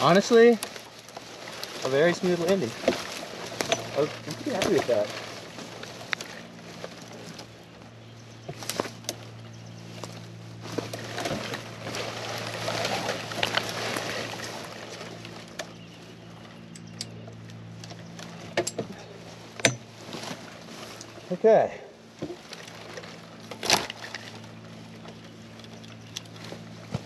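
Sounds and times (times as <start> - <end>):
twigs snapping: 0.0 - 7.6, 8.4 - 21.2, 22.3 - 27.0
branches rustling: 0.0 - 27.0
steady low hum: 0.0 - 27.0.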